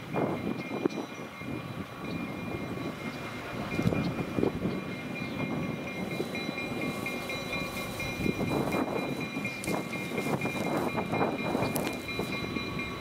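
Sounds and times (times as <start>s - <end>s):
diesel locomotive engine running: 0.0s - 13.0s
wheels clicking on rails: 0.0s - 13.0s.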